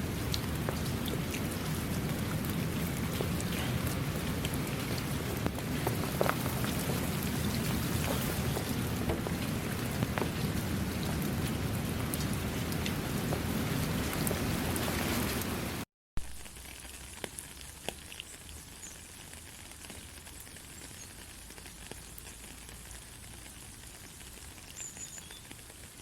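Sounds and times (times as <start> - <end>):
raindrops striking close by: 0.0 - 26.0
steady rain: 0.0 - 26.0.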